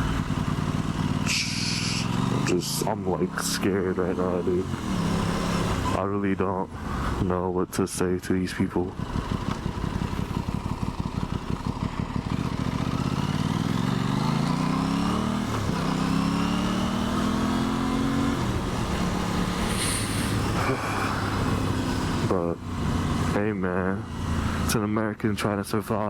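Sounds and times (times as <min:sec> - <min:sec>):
motorcycle engine accelerating: 0:00.0 - 0:06.0, 0:08.8 - 0:24.8.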